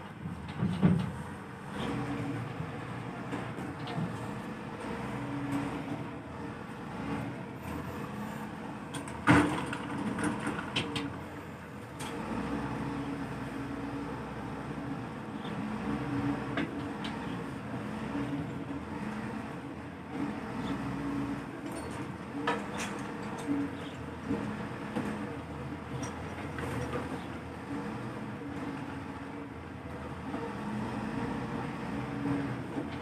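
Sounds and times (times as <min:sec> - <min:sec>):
diesel engine revving: 0:01.3 - 0:33.0.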